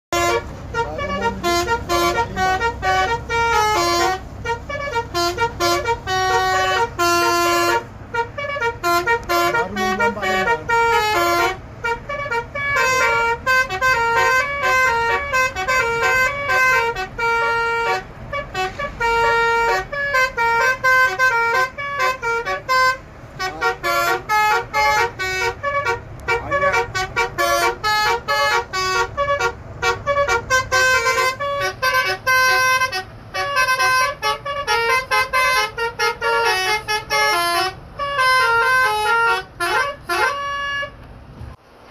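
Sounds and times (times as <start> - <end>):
musical air horn melody: 0.1 - 41.0.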